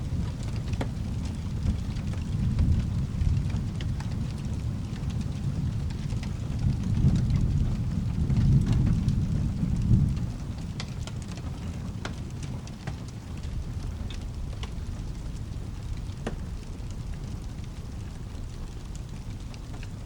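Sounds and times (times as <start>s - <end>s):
low rolling thunder: 0.0s - 20.0s
steady rain: 0.0s - 20.0s.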